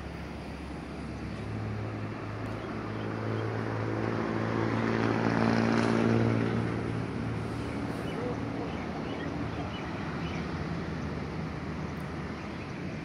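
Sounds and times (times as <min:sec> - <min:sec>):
passing engine hum: 0:00.0 - 0:13.0.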